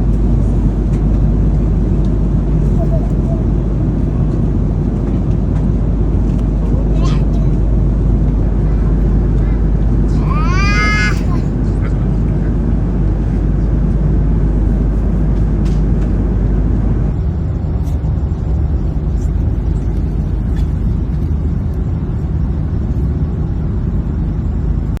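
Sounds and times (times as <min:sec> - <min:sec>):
vehicle rumble from inside: 0:00.0 - 0:25.0.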